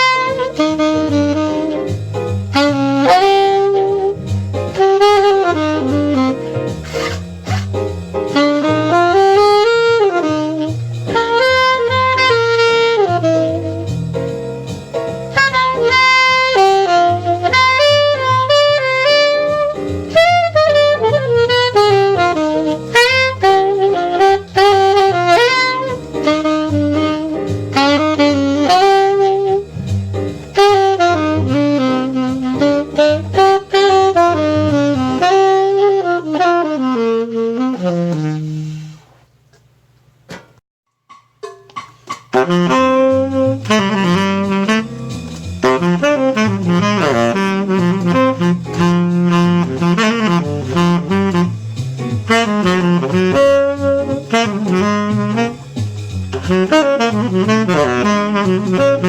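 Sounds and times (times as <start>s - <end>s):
drums: 0.0s - 39.2s, 40.2s - 59.0s
jazz saxophone melody: 0.0s - 39.6s, 41.7s - 59.0s
bass: 0.0s - 40.5s, 41.8s - 59.0s.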